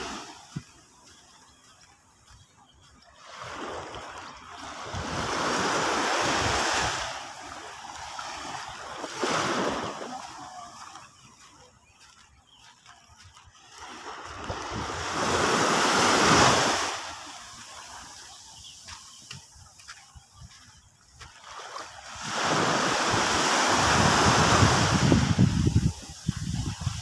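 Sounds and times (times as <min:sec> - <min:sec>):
waves washing up sandy shore: 0:00.0 - 0:12.3, 0:13.3 - 0:27.0.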